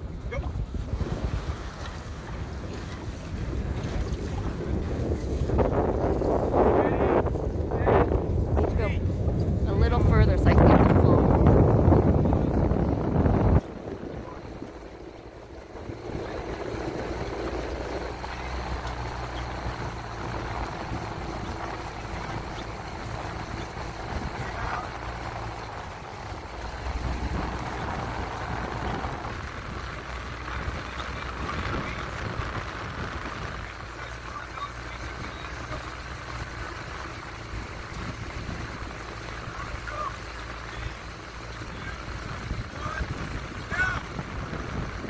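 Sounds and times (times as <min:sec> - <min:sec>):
motorboat humming: 0:00.0 - 0:45.0
water splashing: 0:00.0 - 0:45.0.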